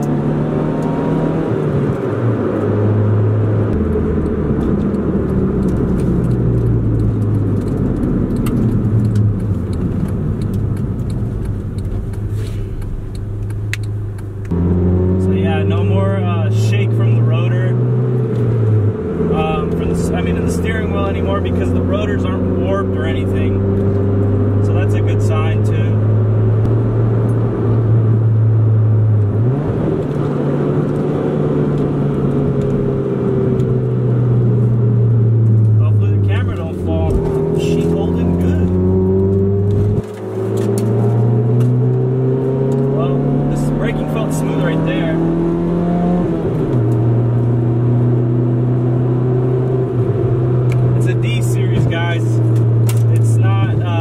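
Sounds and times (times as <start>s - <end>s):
car engine running: 0.0s - 54.0s
tyre and road noise: 0.0s - 54.0s.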